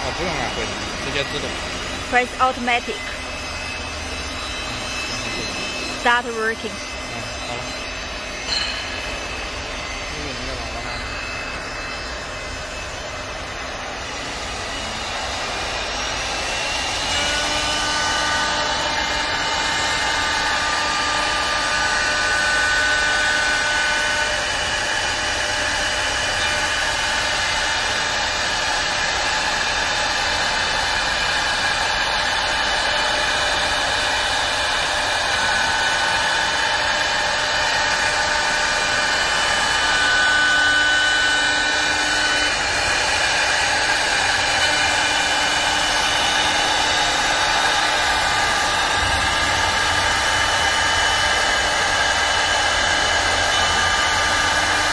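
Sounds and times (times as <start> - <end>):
hiss of wood cutting: 0.0 - 8.4, 10.1 - 54.9
router spindle whine: 0.0 - 54.9.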